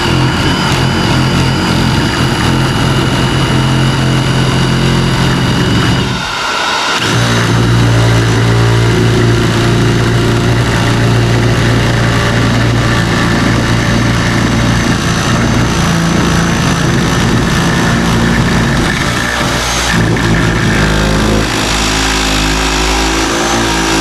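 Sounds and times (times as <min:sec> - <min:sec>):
power tool cutting sheet metal: 0:00.0 - 0:24.0.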